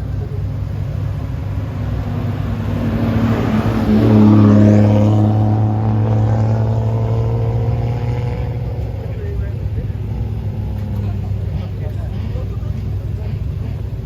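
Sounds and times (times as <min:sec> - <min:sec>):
loud car exhaust driving past: 0:00.0 - 0:14.0.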